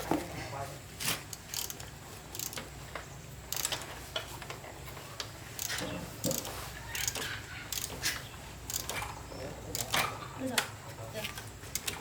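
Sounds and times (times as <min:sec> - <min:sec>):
hand tools clicking and scraping: 0:01.0 - 0:12.0.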